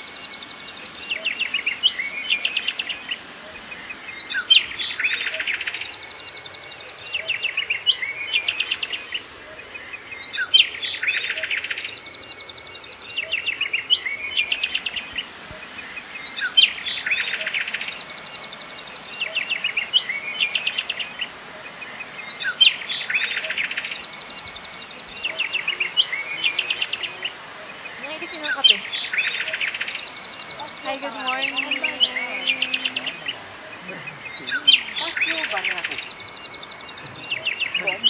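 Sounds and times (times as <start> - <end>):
songbird ticking and trilling: 0.0 - 38.0.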